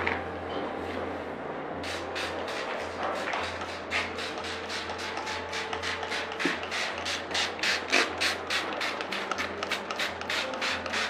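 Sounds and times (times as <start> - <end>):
spray bottle spritzing: 1.8 - 11.0.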